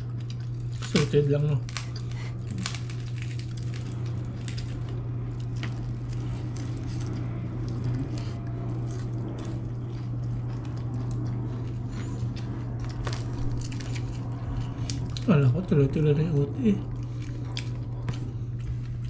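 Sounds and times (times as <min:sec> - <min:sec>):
person chewing food: 0:00.0 - 0:15.3, 0:16.8 - 0:19.0
steady low hum: 0:00.0 - 0:19.0.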